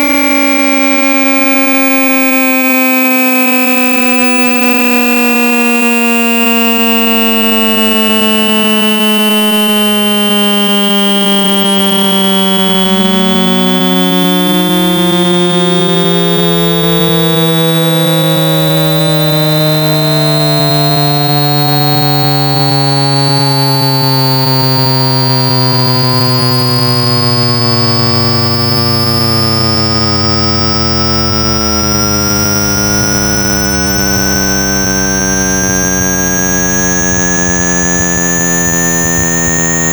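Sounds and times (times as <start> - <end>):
harsh buzzing tone falling: 0.0 - 39.9
pure tone sweeping upward: 0.0 - 39.9
thin high rising tone: 0.0 - 39.9.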